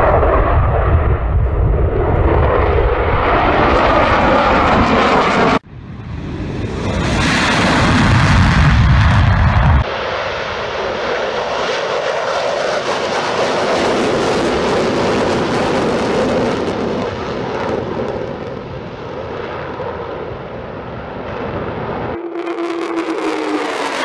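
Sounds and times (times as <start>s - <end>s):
jet afterburner roar: 0.0s - 24.0s.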